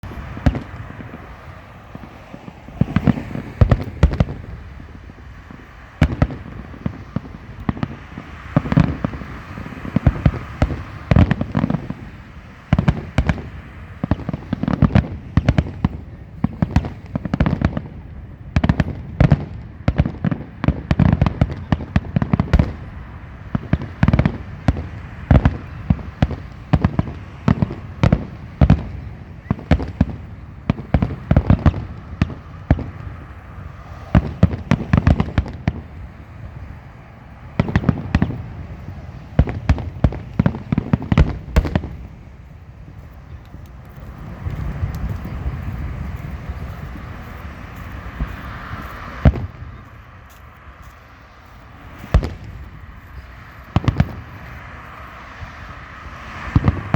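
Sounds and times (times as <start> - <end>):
fireworks bursts and bangs: 0.0 - 51.0, 51.6 - 56.9.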